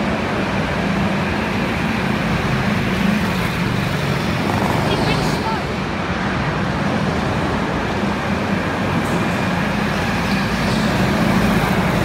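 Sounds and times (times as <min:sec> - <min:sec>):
racing kart engines droning: 0:00.0 - 0:12.0.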